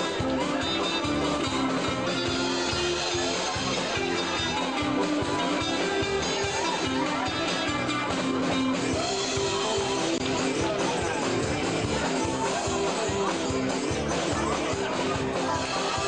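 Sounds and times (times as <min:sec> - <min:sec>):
drums beat: 0:00.0 - 0:16.0
electric guitar: 0:00.0 - 0:16.0
live dance band playing: 0:00.0 - 0:16.0.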